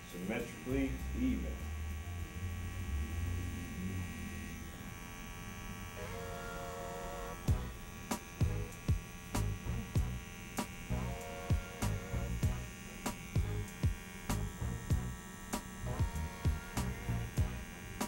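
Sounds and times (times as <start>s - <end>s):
electric hair trimmer buzzing: 0.0s - 18.0s.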